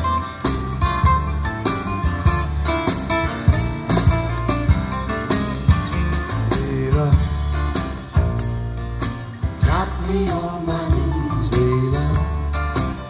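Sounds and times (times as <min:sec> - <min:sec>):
loud guitar-led music: 0:00.0 - 0:13.0.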